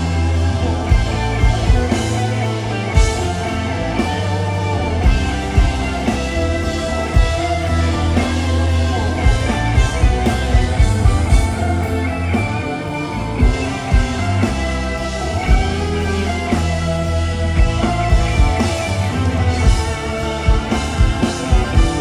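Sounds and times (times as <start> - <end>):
bass notes: 0.0 - 22.0
electric guitar: 0.0 - 22.0.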